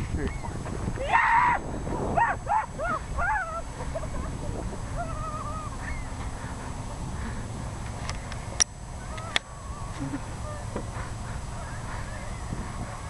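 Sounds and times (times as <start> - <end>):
seagulls calling: 2.2 - 13.0.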